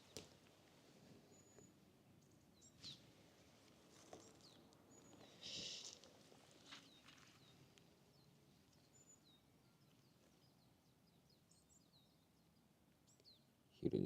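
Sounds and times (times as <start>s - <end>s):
small birds chirping: 1.1s - 3.1s, 4.0s - 14.0s.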